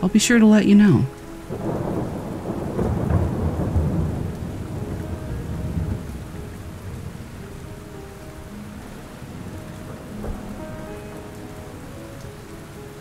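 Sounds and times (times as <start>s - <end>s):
steady rain: 0.0s - 13.0s
rolling thunder: 1.4s - 13.0s.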